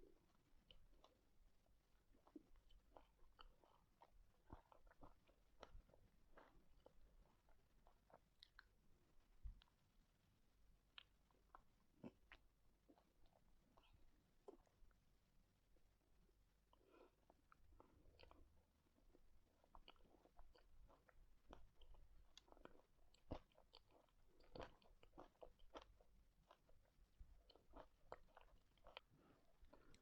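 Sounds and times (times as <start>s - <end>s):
person chewing with mouth smacks: 0.1s - 10.0s, 10.8s - 15.1s, 16.6s - 30.0s.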